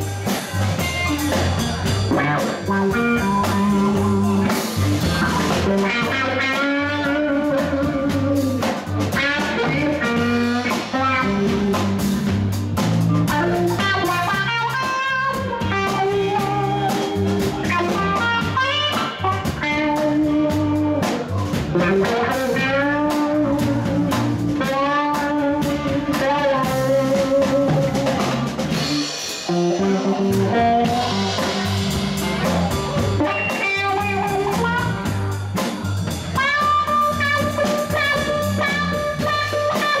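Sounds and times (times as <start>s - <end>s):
drum kit: 0.0s - 40.0s
electric bass: 0.0s - 40.0s
electric guitar lead: 0.0s - 40.0s.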